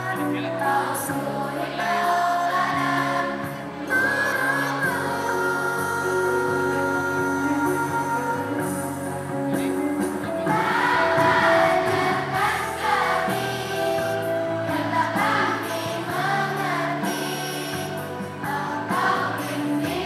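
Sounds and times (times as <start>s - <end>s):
children singing in unison: 0.0s - 8.6s, 10.4s - 20.0s
instrumental accompaniment: 0.0s - 20.0s.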